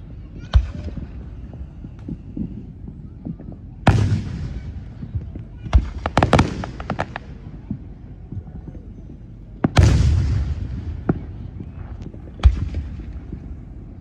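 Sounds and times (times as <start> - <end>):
fireworks booming: 0.0 - 14.0
small firework pops: 0.4 - 8.9, 9.6 - 13.7.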